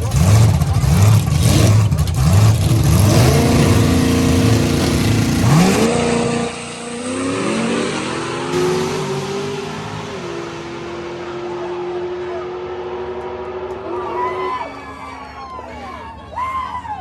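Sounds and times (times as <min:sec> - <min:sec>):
race car accelerating: 0:00.0 - 0:15.3.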